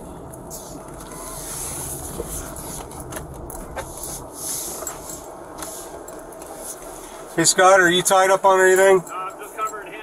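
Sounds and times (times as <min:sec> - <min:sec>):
car cabin rumble and hiss: 0:00.0 - 0:10.0.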